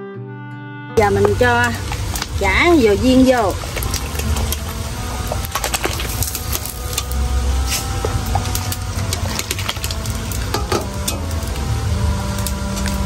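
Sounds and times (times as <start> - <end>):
low rumble: 1.0 - 13.0.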